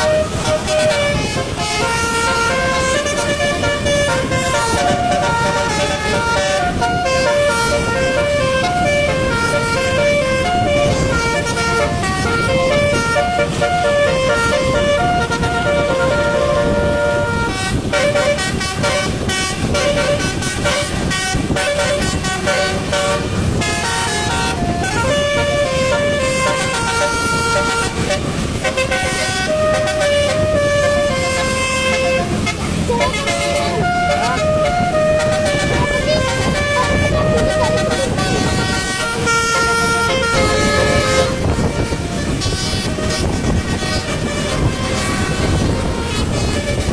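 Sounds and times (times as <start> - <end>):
multi-tone air horn melody: 0.0 - 46.9
steady rushing noise: 0.0 - 46.9.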